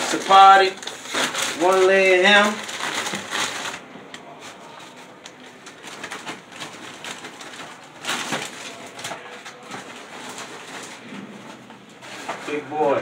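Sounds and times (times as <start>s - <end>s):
plastic crinkling: 0.0s - 13.0s.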